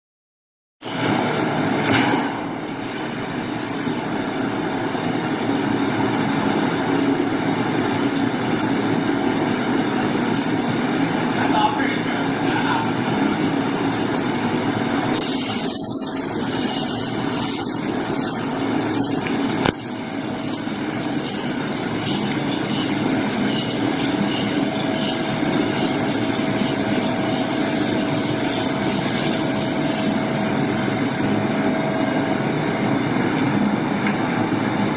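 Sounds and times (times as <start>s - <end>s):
roasting drum machine running: 0.8s - 34.9s.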